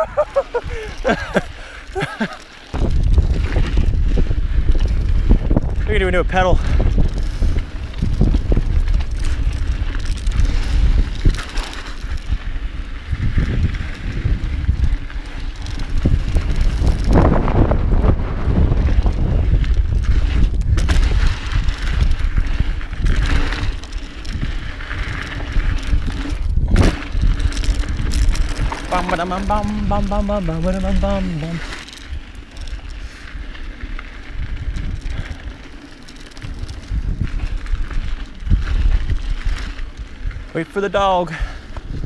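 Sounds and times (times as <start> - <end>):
wind buffeting microphone: 0.0 - 2.0, 2.7 - 40.6, 41.4 - 42.0
bike knocking and rattling: 0.0 - 42.0
bike tyre noise on dirt: 0.0 - 42.0.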